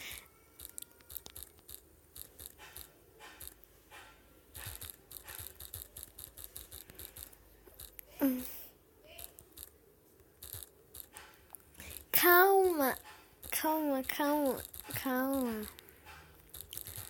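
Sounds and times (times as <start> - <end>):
typing on phone touchscreen: 0.0 - 8.0, 9.1 - 17.0.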